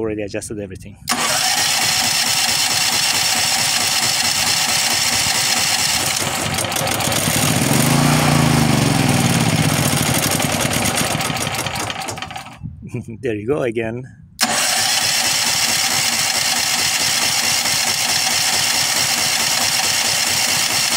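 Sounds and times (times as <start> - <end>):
engine briefly firing: 1.1 - 12.6, 14.4 - 20.9
generator engine cranking: 1.1 - 12.6, 14.4 - 20.9.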